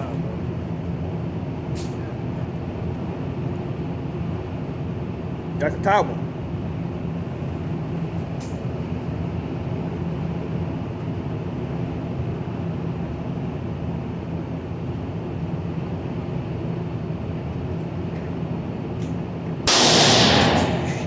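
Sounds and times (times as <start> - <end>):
low machinery hum and rumble: 0.0 - 21.0.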